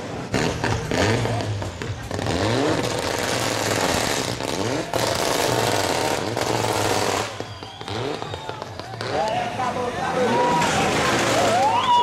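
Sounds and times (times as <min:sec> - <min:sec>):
rally car engine revving: 0:00.0 - 0:11.8.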